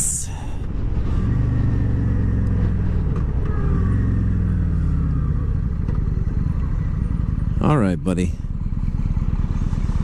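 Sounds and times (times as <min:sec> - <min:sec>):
motorcycle engine running: 0:00.6 - 0:10.0.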